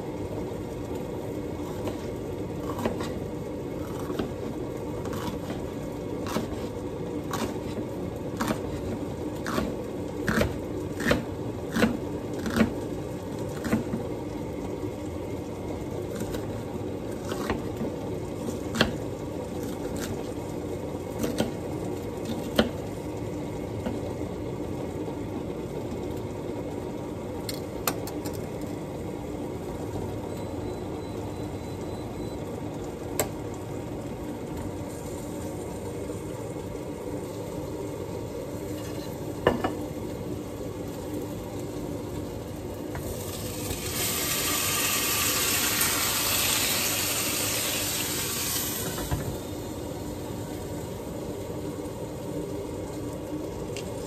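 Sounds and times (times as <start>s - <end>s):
steady hiss and hum: 0.0s - 54.0s.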